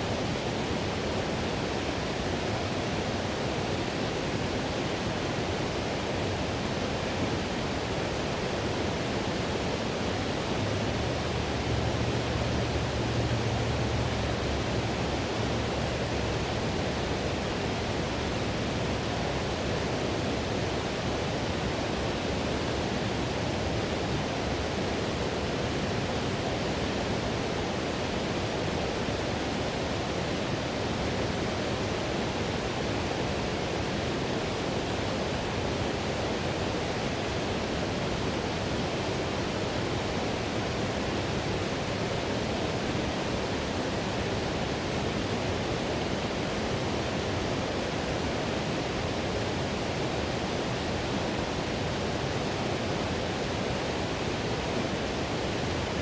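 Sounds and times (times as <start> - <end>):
whitewater river rushing: 0.0 - 56.0.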